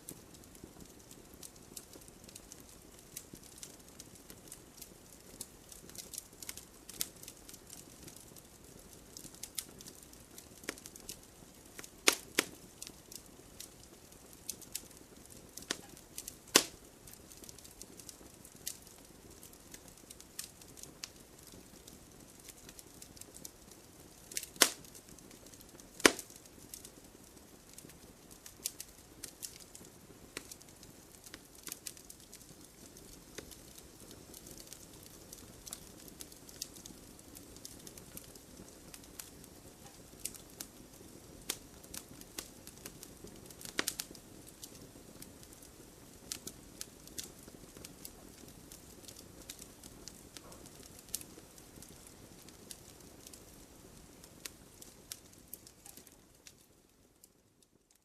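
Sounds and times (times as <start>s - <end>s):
loud snaps of fire: 0.0s - 58.0s
wood fire crackling: 0.0s - 58.0s.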